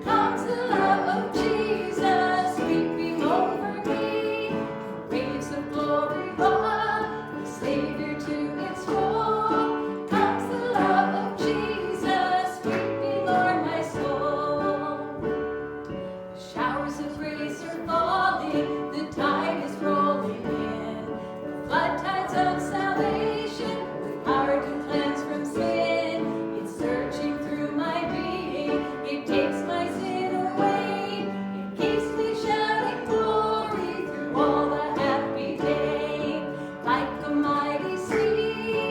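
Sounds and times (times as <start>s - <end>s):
woman singing worship song: 0.0s - 15.4s, 16.4s - 38.9s
instrumental accompaniment: 0.0s - 38.9s.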